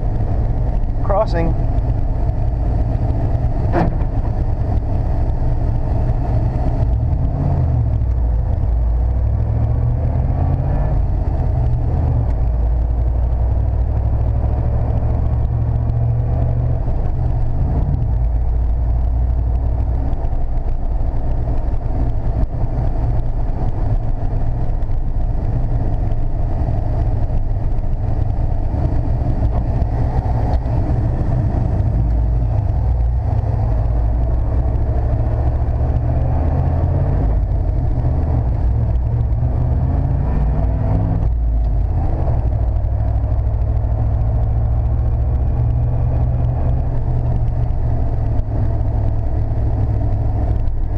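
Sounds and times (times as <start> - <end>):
engine rumble inside pickup cab: 0.0 - 50.9
road noise: 0.0 - 50.9.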